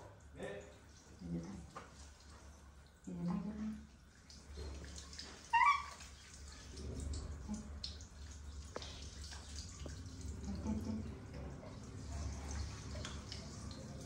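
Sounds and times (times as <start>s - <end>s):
shower water running and dripping: 0.0s - 14.0s.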